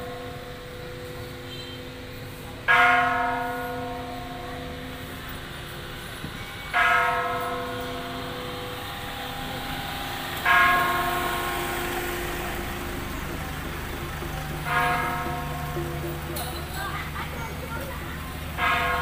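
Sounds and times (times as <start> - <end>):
temple bell ringing: 0.0 - 19.0
vehicle engine humming: 0.0 - 19.0.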